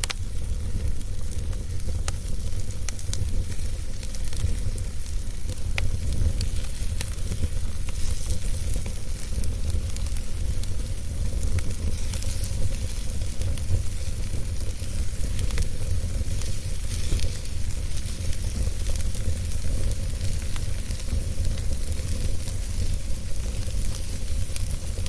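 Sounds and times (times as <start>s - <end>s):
logs crackling and popping: 0.0s - 25.0s
wood fire rumbling and hissing: 0.0s - 25.0s.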